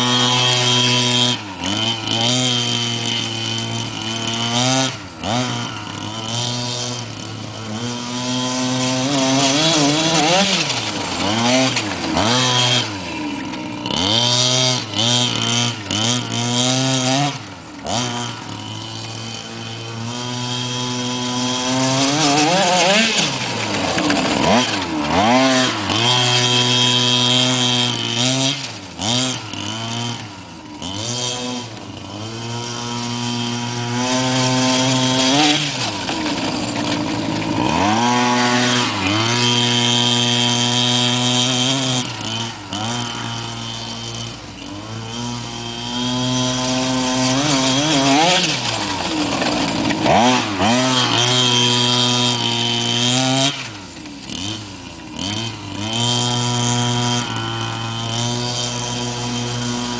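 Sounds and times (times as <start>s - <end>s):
small two-stroke engine revving: 0.0s - 59.9s.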